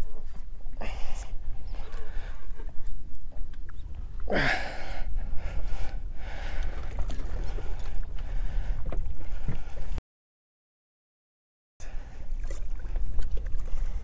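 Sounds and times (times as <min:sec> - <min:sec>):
low rumble of wind and water: 0:00.0 - 0:10.0, 0:11.8 - 0:14.0.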